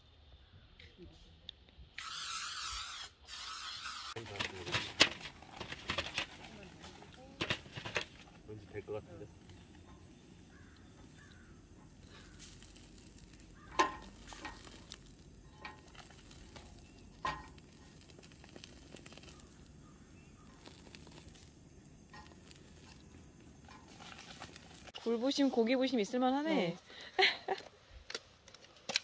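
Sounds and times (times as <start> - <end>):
food sizzling: 2.0 - 26.6
gas burner hissing: 2.0 - 26.6.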